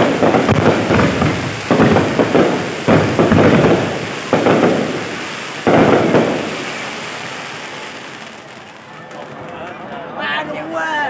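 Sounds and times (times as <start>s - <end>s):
fireworks booming: 0.0s - 9.6s.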